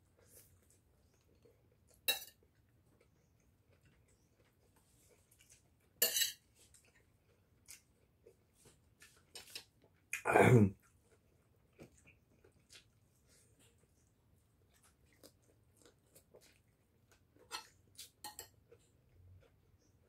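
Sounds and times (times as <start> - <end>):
man chewing food: 0.0 - 20.0.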